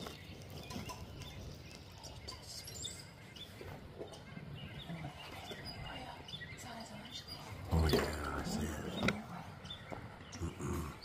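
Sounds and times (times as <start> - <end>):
faint bird chirps: 0.0 - 11.0
low outdoor hum: 0.0 - 11.0.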